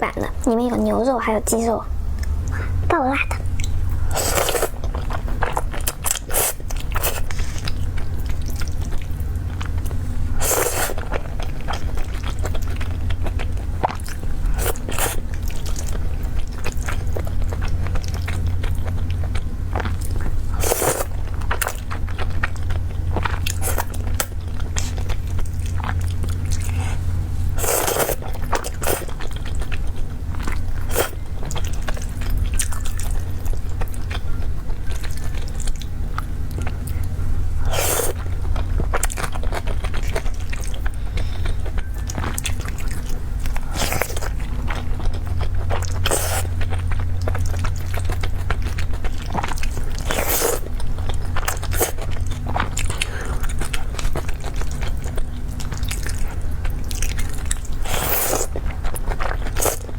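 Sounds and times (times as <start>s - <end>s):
chewing and crunching: 0.0s - 59.9s
steady low hum: 0.0s - 59.9s.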